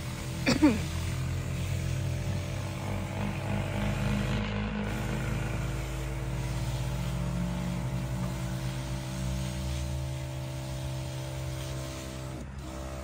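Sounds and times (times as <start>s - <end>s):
hiss of fine mist spray: 0.0s - 13.0s
sprayer pump motor humming: 0.0s - 13.0s.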